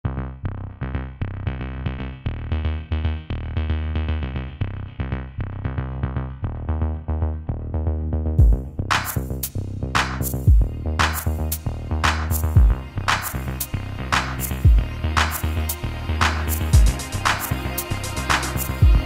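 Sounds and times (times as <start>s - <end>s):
electronic music with synthesizer: 0.3s - 19.0s.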